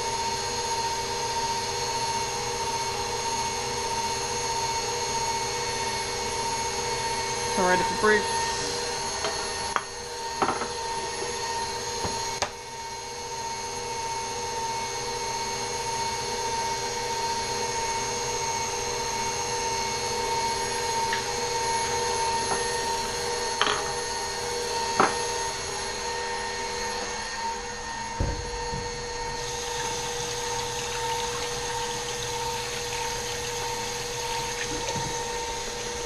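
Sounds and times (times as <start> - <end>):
stand mixer motor running: 0.0 - 36.0.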